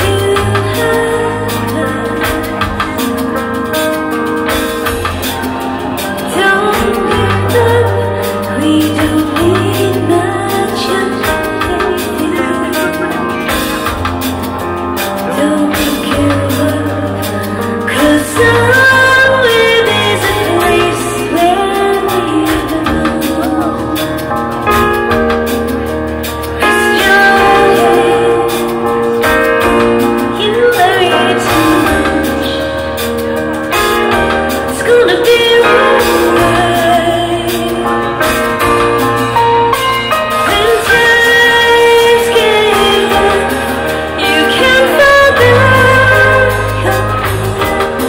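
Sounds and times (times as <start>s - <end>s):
drums: 0.0s - 48.0s
woman singing: 0.0s - 48.0s.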